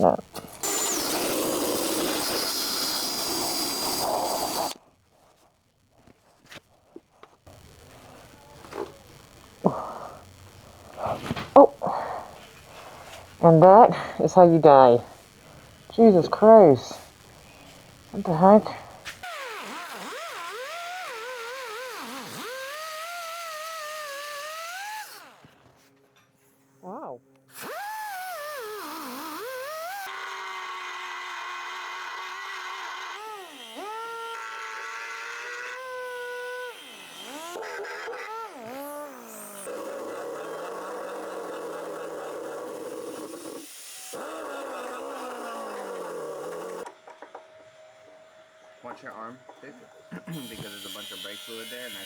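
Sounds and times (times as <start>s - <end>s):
power tool whining: 0.0s - 4.8s, 7.5s - 26.1s, 27.3s - 52.0s.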